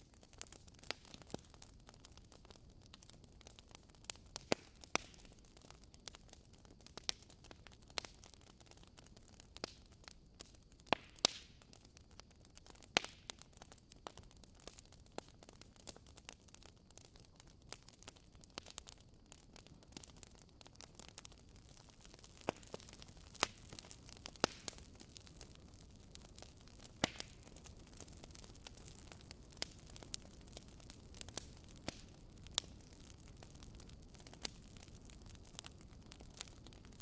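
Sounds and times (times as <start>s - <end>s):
fire soft hiss: 0.0s - 37.0s
firewood crackling and popping: 0.0s - 37.0s.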